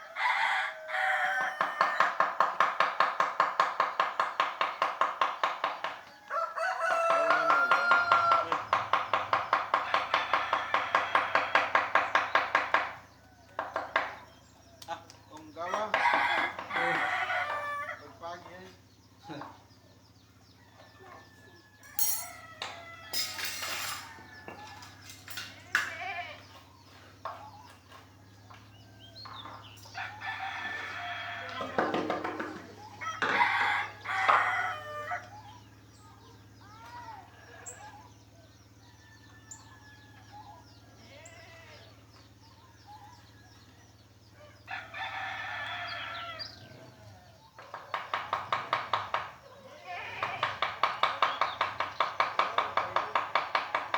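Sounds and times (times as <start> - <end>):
rooster crowing: 0.0 - 2.8, 5.8 - 14.7, 15.6 - 18.4, 20.4 - 26.6, 27.2 - 35.7, 36.3 - 53.9.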